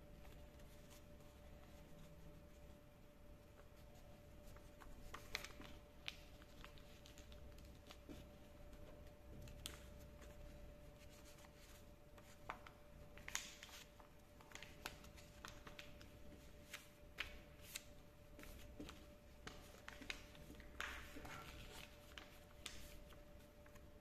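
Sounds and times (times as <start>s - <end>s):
paper being folded and creased: 3.5s - 24.0s.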